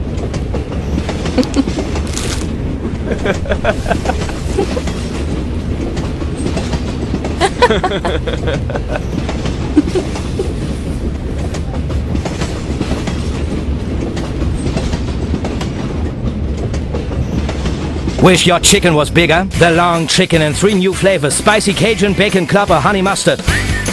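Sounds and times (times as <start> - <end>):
subway train rumble: 0.0 - 23.9
wheels clattering on track: 0.0 - 23.9.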